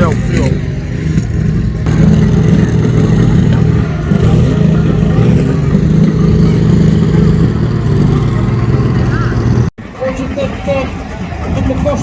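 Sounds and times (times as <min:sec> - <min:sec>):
tractor engine running loud: 0:00.0 - 0:12.0.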